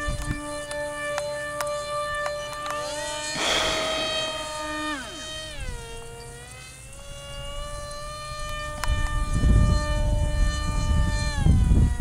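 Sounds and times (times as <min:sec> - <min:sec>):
wind rumble on microphone: 0:00.0 - 0:06.1, 0:07.0 - 0:12.0
model plane motor whining: 0:00.0 - 0:12.0.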